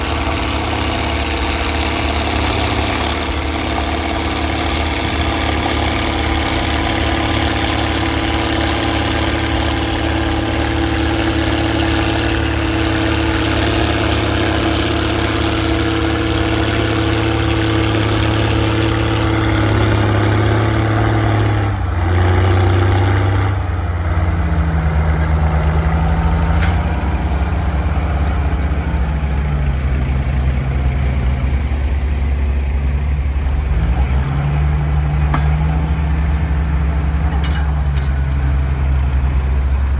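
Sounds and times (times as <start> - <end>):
loud diesel tractor engine: 0.0 - 39.9.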